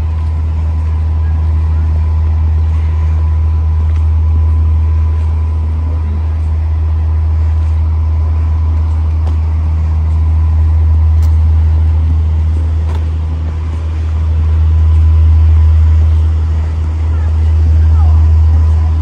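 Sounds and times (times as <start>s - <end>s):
distant city traffic rumble: 0.0s - 19.0s.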